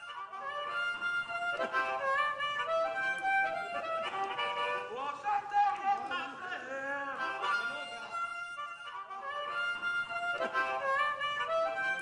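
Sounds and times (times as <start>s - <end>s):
instrumental music with bending notes: 0.0s - 5.0s, 7.2s - 12.0s.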